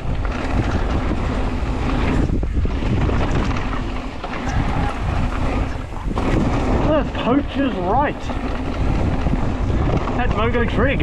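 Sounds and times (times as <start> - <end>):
bike rattling and knocking: 0.0 - 11.0
knobby tyres rolling on dirt: 0.0 - 11.0
wind buffeting microphone: 0.0 - 11.0.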